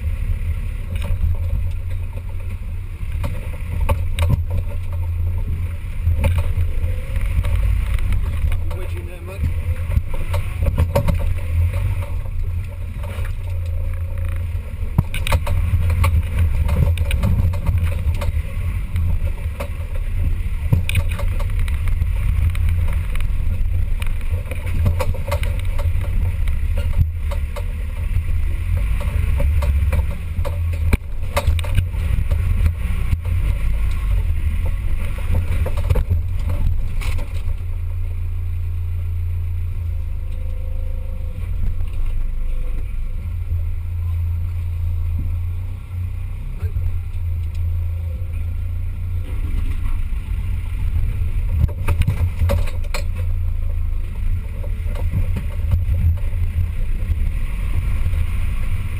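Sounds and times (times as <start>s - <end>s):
off-road vehicle rumbling: 0.0s - 58.9s
vehicle knocks and rattles: 0.8s - 38.3s, 48.4s - 58.9s.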